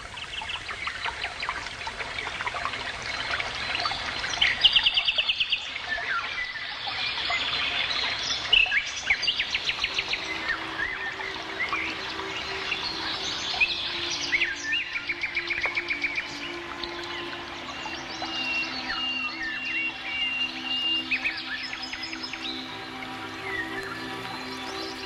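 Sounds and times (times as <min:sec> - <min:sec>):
songbirds chirping and whistling: 0:03.0 - 0:25.0.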